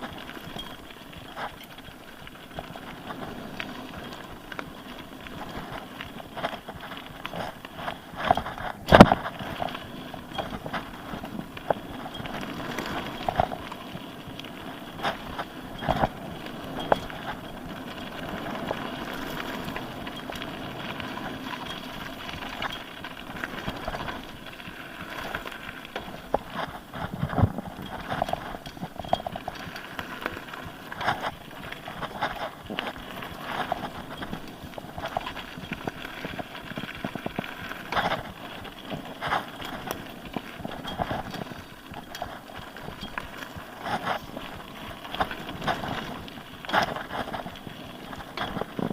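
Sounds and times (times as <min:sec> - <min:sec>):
bike knocking and rattling: 0:00.0 - 0:48.9
bike tyres rushing over trail: 0:00.0 - 0:48.9.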